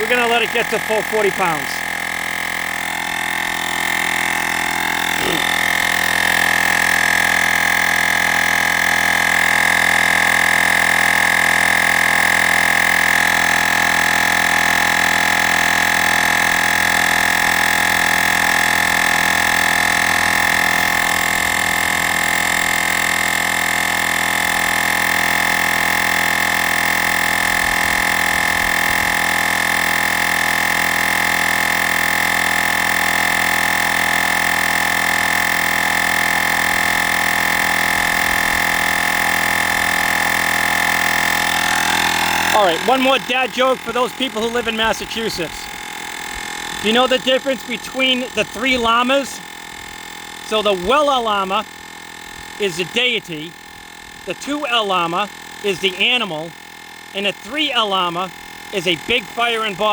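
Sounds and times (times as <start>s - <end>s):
air compressor whining: 0.0s - 59.9s.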